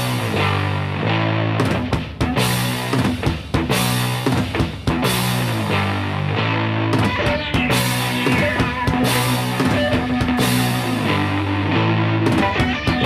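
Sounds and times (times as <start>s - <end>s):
rock music with drums and guitar: 0.0s - 13.0s.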